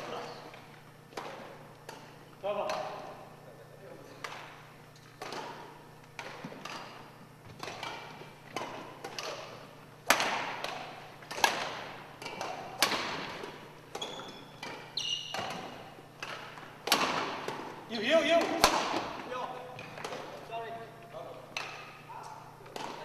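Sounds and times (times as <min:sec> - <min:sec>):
rackets hitting shuttlecock: 0:00.0 - 0:03.3, 0:04.1 - 0:20.5, 0:21.4 - 0:23.0.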